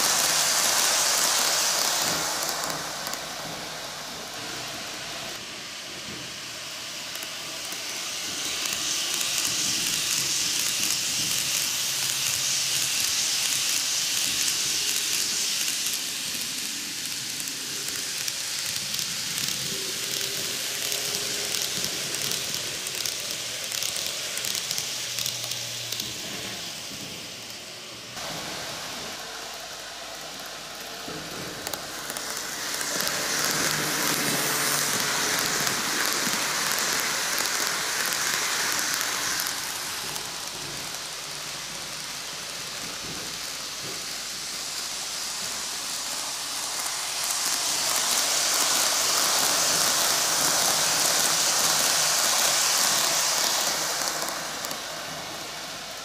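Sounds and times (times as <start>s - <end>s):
model train wheels and motor: 0.0s - 56.0s.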